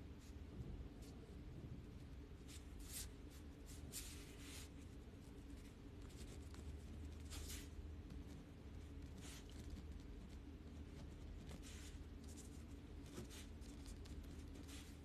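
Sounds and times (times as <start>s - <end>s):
steady low hum: 0.0s - 15.0s
faint hissy rustles: 0.2s - 15.0s.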